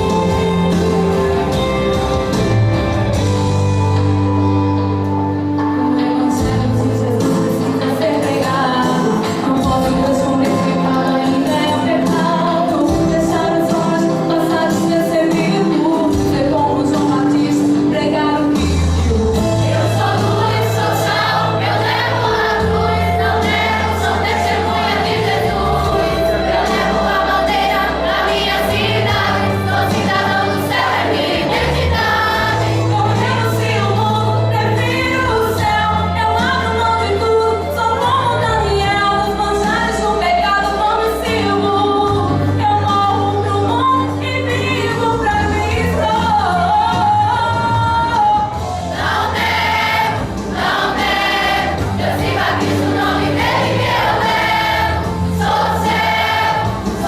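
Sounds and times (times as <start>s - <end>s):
choir singing gospel: 0.0s - 3.5s, 5.9s - 57.0s
instrumental accompaniment: 0.0s - 38.2s, 38.8s - 57.0s.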